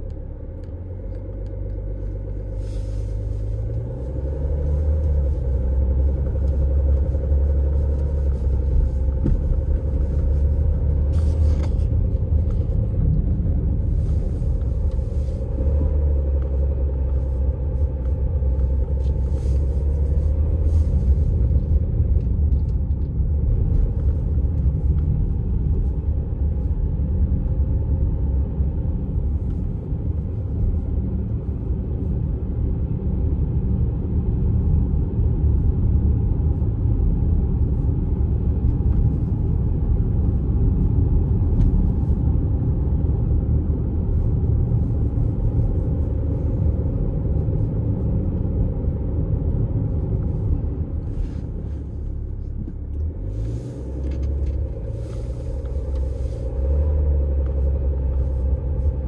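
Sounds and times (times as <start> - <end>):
diesel vehicle driving: 0.0 - 59.0.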